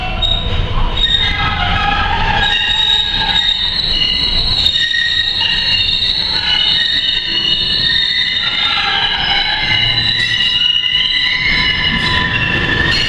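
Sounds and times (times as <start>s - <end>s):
trolley wheels squealing on rails: 0.0s - 13.0s.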